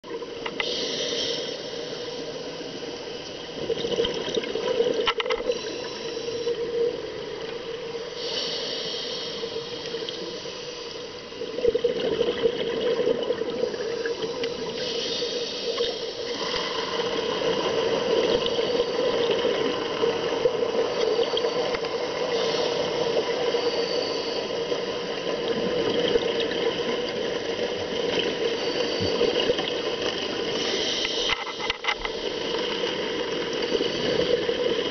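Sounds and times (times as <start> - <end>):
underwater exhaled bubbles gurgling: 0.0 - 34.9.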